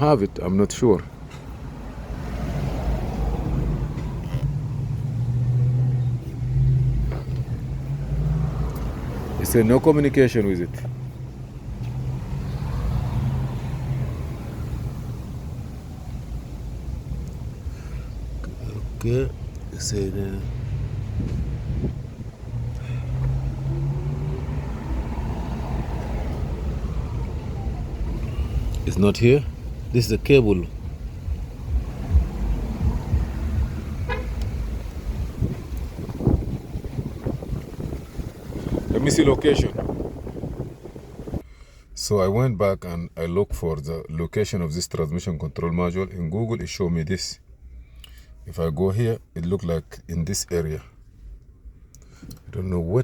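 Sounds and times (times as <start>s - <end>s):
engine rumbling: 0.0s - 53.0s.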